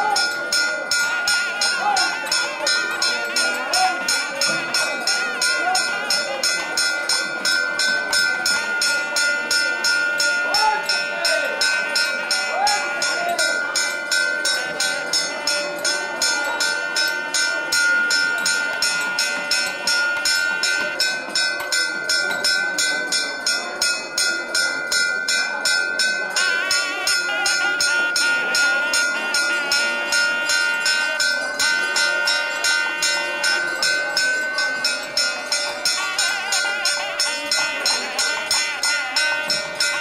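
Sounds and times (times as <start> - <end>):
faint crowd voices: 0.0 - 40.0
metal percussion beat: 0.0 - 40.0.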